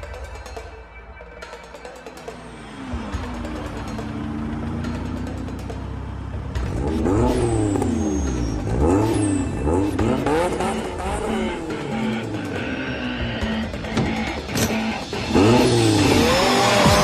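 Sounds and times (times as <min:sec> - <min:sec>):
car engine idling and revving: 0:01.4 - 0:17.0.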